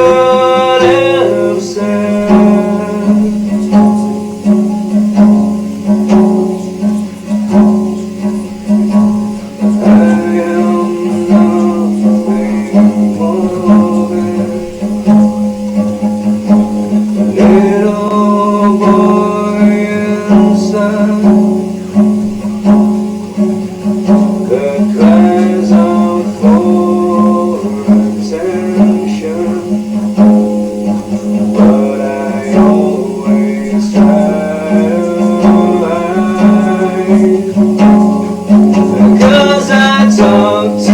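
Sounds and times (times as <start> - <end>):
guitar accompaniment: 0.0 - 40.9
person singing blues: 0.0 - 40.9
steady low held note: 0.0 - 40.9.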